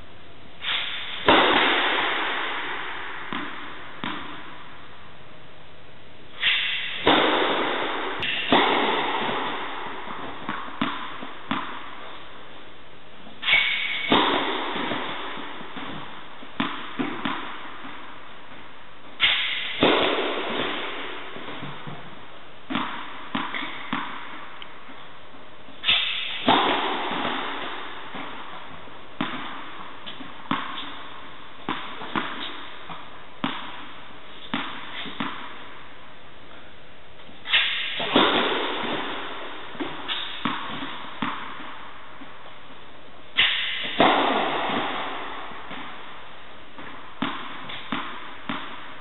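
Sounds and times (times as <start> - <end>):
tennis ball bouncing on court: 0.6 - 4.7, 6.4 - 12.2, 13.2 - 18.6, 19.2 - 25.1, 25.7 - 35.8, 37.2 - 42.5, 43.4 - 46.1, 46.7 - 49.0
tennis serve cracks with echo: 0.6 - 5.0, 6.3 - 49.0.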